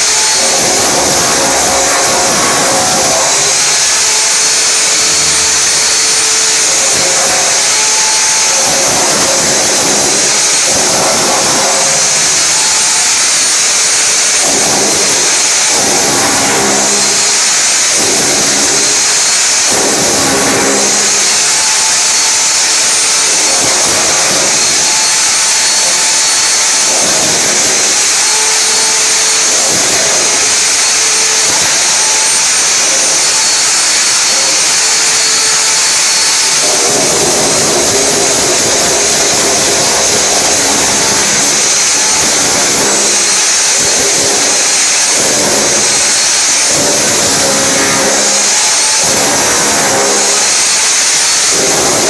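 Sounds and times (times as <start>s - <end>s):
hammer drill chiselling wall: 0.0s - 52.0s.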